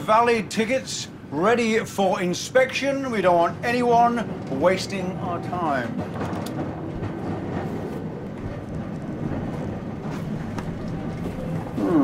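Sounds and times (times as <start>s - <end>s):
tram carriage rumbling: 0.0s - 12.0s.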